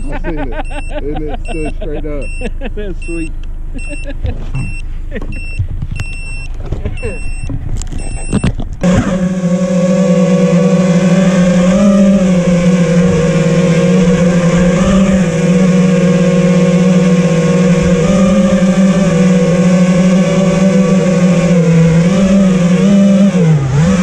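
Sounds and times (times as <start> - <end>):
drone motors buzzing whine: 0.0 - 24.0.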